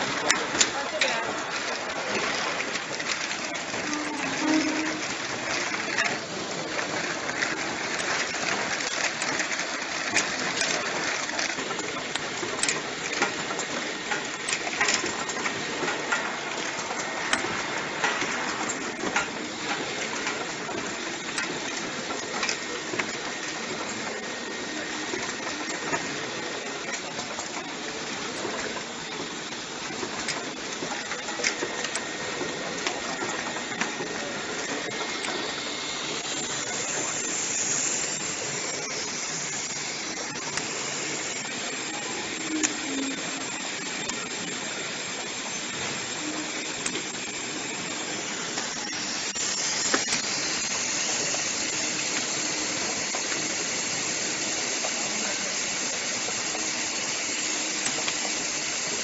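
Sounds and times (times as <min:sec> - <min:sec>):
bottle capping machine whirring: 0:00.0 - 0:59.0.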